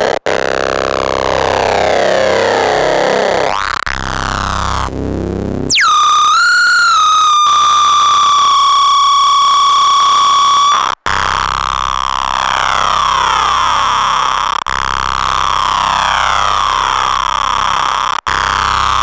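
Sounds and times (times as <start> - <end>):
synthesizer buzz and tone: 0.0 - 19.0.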